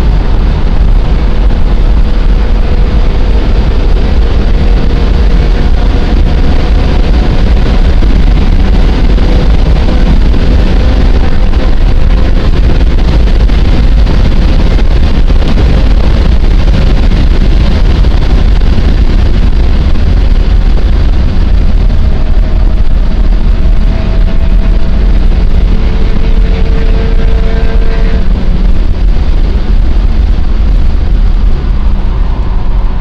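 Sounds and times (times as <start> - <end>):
car engine revving hard: 0.0 - 33.0
wind and road noise: 0.0 - 33.0.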